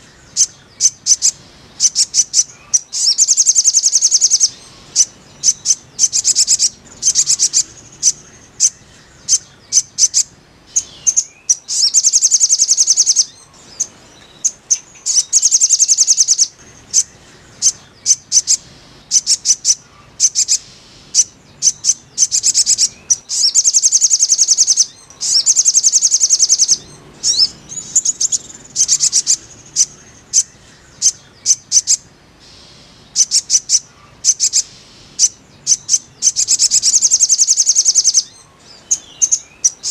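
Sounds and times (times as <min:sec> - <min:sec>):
bird chirps: 0:00.0 - 0:39.9
songbird trilling: 0:00.0 - 0:39.9.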